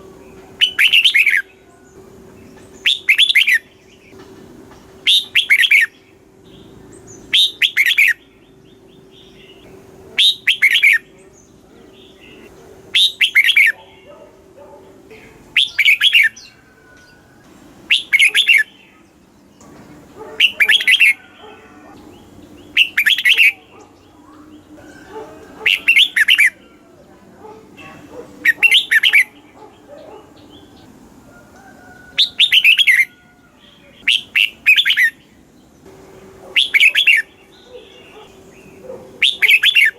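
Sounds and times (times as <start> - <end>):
bulbul singing whistled phrases: 0.0 - 4.1, 5.0 - 14.1, 15.1 - 19.8, 20.4 - 26.9, 27.7 - 30.9, 32.2 - 35.7, 36.6 - 39.9.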